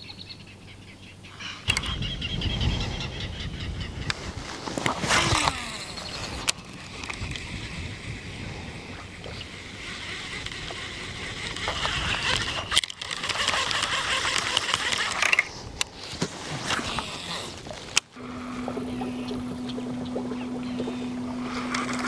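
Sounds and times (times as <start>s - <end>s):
low boat motor hum: 0.0s - 22.0s
wind: 0.0s - 22.0s
water noise around boat: 0.2s - 22.0s.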